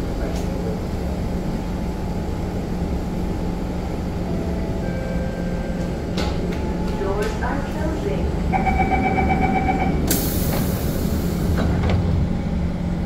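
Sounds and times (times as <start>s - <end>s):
metro train humming and rumbling: 0.0s - 13.0s.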